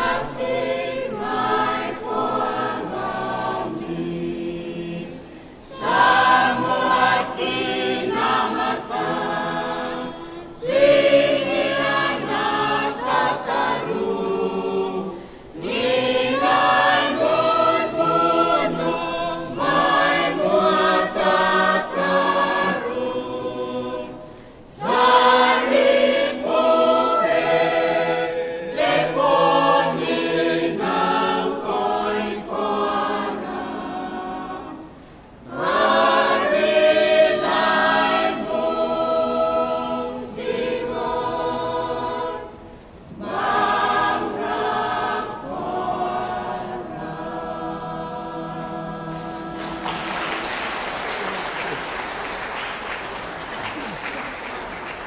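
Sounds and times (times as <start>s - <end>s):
choir singing a hymn in harmony: 0.0s - 52.3s.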